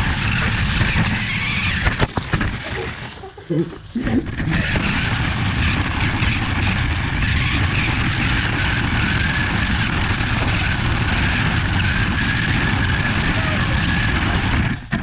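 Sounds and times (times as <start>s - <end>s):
continuous low rumble: 0.0s - 15.0s
toy car electric motor whining: 0.0s - 15.0s.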